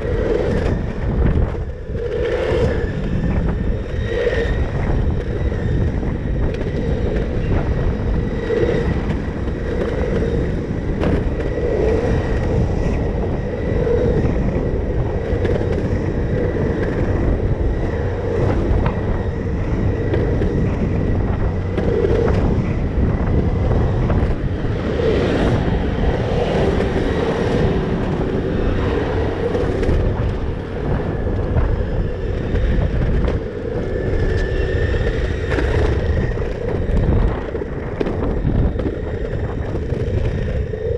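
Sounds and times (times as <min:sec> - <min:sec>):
skateboard wheels rumbling: 0:00.0 - 0:40.9
wind buffeting microphone: 0:00.0 - 0:40.9.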